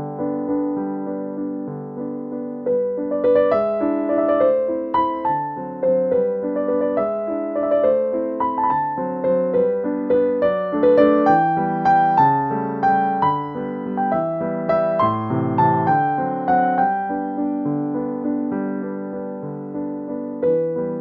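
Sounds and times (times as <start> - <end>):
calm piano music: 0.0 - 21.0.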